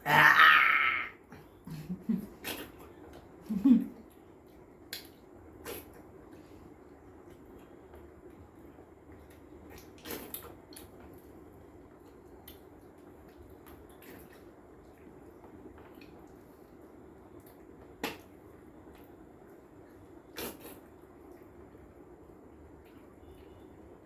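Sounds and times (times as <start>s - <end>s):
wet smacking of eating: 4.0s - 23.6s.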